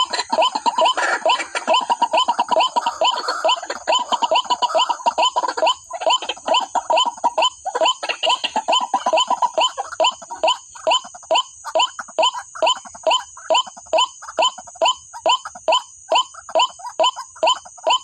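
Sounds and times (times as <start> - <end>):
waterhen calls: 0.0 - 18.0.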